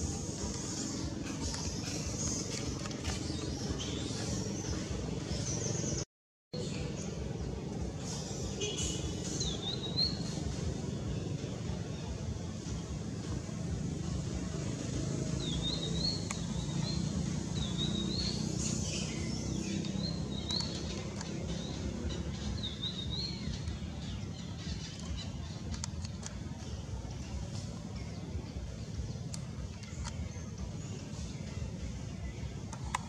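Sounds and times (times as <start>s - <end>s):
low outdoor rumble: 0.0s - 6.0s, 6.6s - 33.0s.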